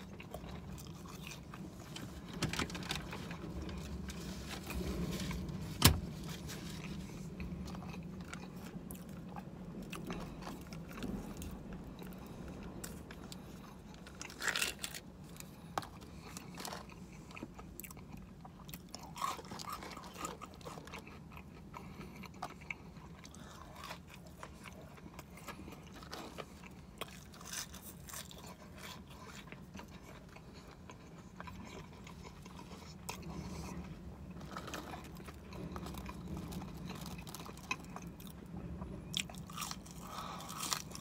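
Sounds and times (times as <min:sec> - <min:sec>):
chewing crispy food: 0:00.0 - 0:41.0
low hum: 0:00.0 - 0:41.0.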